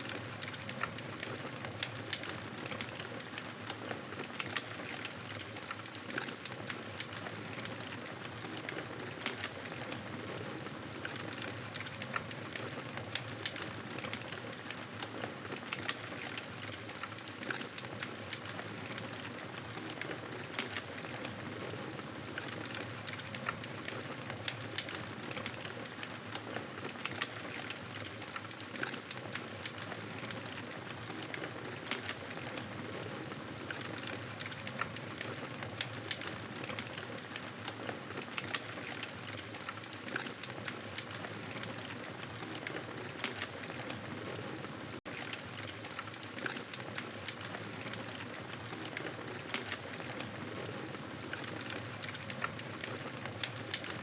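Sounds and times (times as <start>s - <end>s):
wood crackling and popping: 0.0s - 54.0s.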